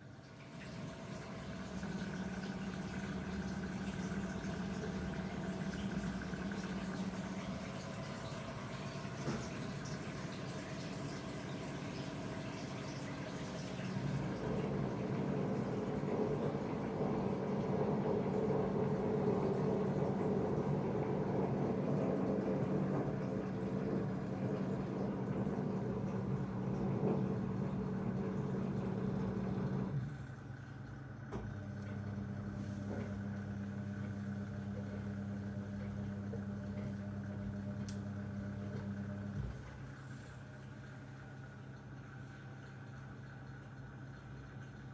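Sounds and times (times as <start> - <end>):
rushing water in washing machine: 0.0 - 44.9
washing machine motor hum: 0.0 - 44.9.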